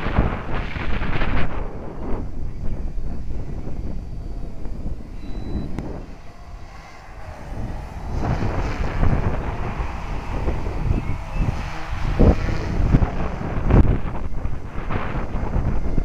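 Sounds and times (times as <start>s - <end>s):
gusty wind on microphone: 0.0s - 16.0s
toy helicopter motor whine: 0.1s - 16.0s.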